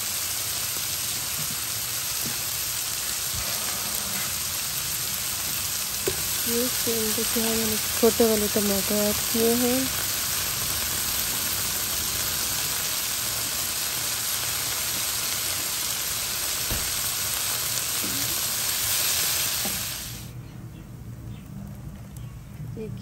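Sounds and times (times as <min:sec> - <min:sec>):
food sizzling in oil: 0:00.0 - 0:20.3.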